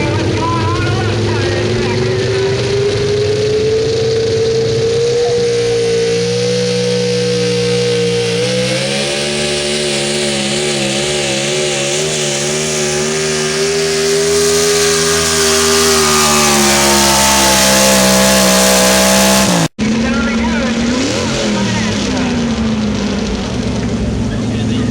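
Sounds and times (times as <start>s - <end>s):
truck engine at high revs: 0.0s - 24.9s.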